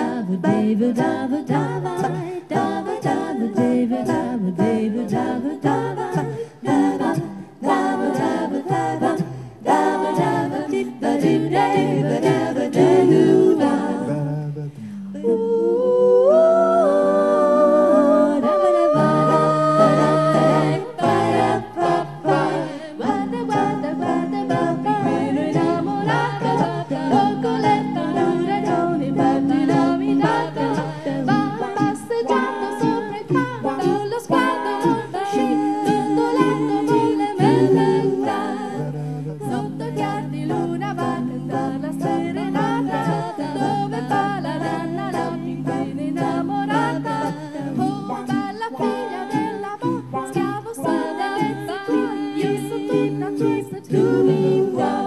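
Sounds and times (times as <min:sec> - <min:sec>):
vocal group singing a cappella: 0:00.0 - 0:55.0.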